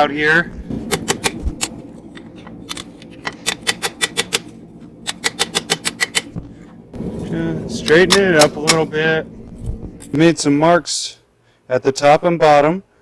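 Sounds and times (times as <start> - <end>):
forge running: 0.4 - 10.8.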